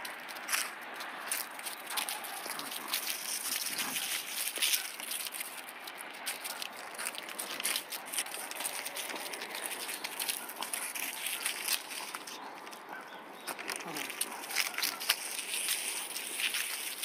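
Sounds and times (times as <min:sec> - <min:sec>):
footsteps on dry leaves: 0:00.0 - 0:17.0.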